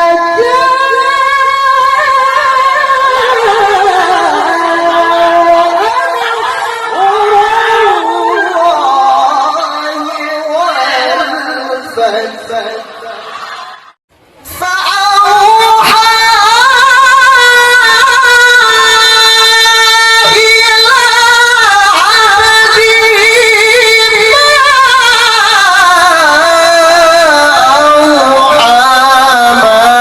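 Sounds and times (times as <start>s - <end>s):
man chanting melodic recitation: 0.0s - 12.9s, 14.6s - 30.0s.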